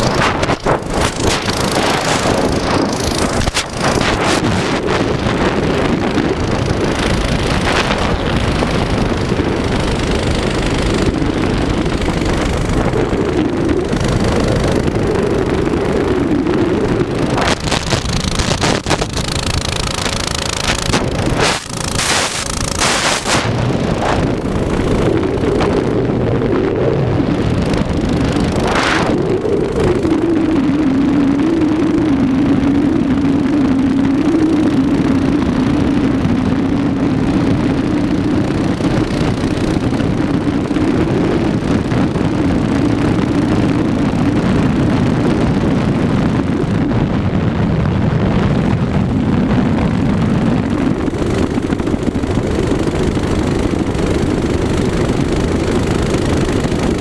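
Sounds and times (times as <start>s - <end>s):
mini bike engine running: 0.0s - 57.0s
wind buffeting microphone: 0.0s - 57.0s.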